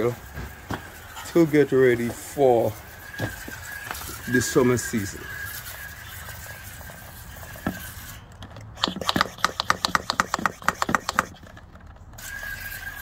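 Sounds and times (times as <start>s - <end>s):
squeaky sprayer pump strokes: 0.0s - 13.0s.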